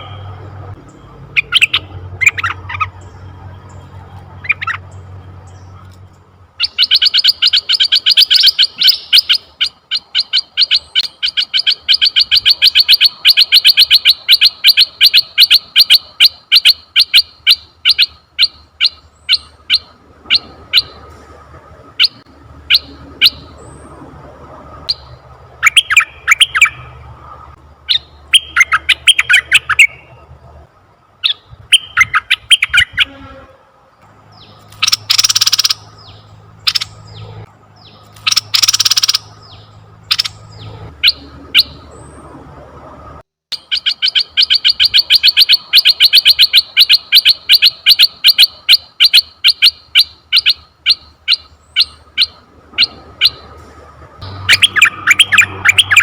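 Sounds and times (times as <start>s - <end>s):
harsh rasping bird calls: 0.0s - 21.1s, 24.8s - 30.3s, 31.2s - 33.6s, 34.3s - 42.3s, 43.6s - 53.6s, 54.2s - 56.0s
bird chirps and trills: 0.0s - 21.2s, 21.9s - 24.2s, 24.8s - 30.3s, 31.2s - 33.4s, 34.2s - 42.5s, 43.5s - 53.6s, 54.2s - 56.0s.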